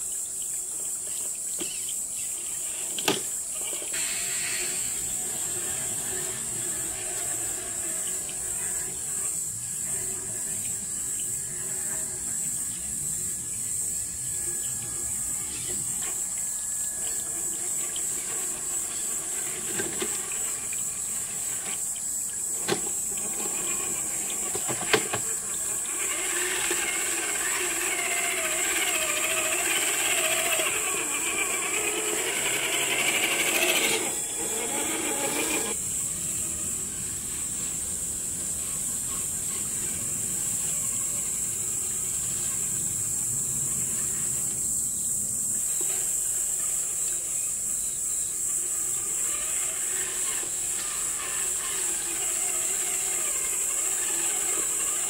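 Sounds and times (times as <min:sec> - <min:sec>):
toy car electric motor whining: 0:00.0 - 0:44.7, 0:45.5 - 0:55.0
steady high hiss: 0:00.0 - 0:55.0.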